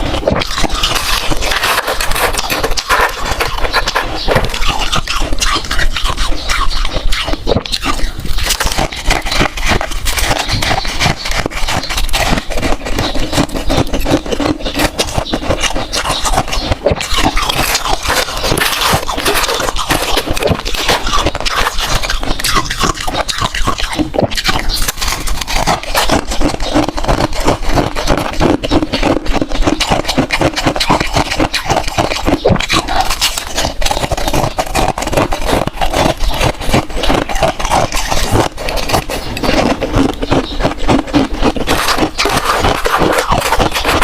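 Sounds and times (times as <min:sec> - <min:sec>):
frost scraped and crunched: 0:00.0 - 0:44.0.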